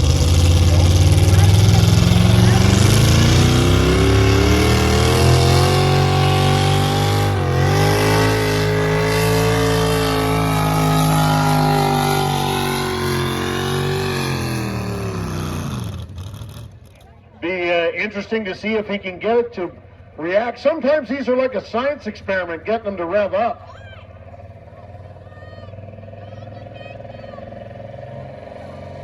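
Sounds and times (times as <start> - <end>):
vehicle engine running under load: 0.0 - 17.5, 22.0 - 29.0.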